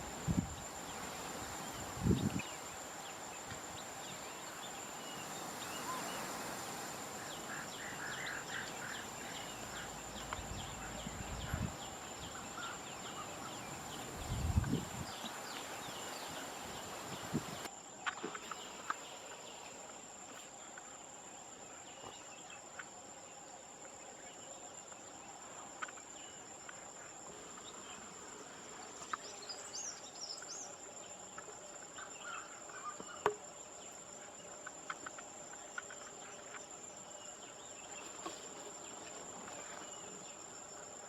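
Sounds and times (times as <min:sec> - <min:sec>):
insects droning and chirping: 0:00.0 - 0:41.0.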